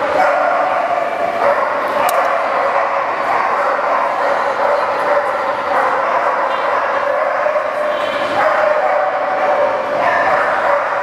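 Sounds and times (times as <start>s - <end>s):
many dogs barking and yipping: 0.0s - 11.0s.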